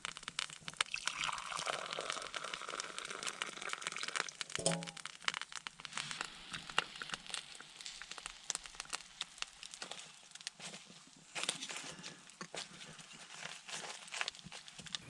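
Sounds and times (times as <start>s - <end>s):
campfire crackling: 0.0s - 14.8s.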